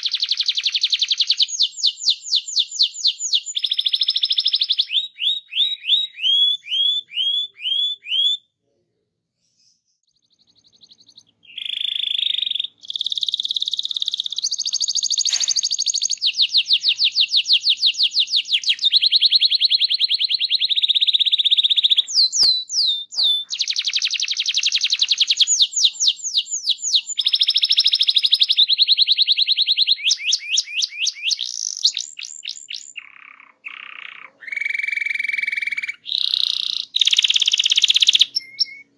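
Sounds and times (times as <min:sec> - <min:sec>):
canary singing trills: 0:00.0 - 0:08.5, 0:09.5 - 0:38.9.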